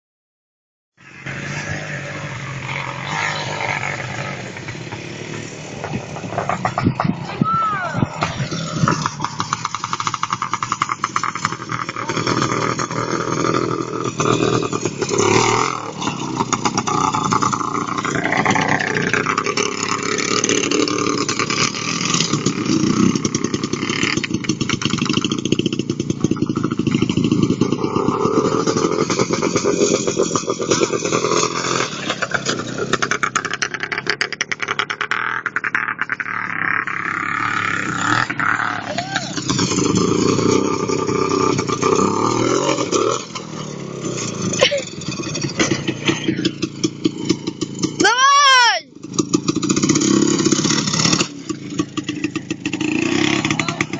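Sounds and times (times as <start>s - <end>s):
two-stroke motorcycle engine revving: 1.0s - 53.9s.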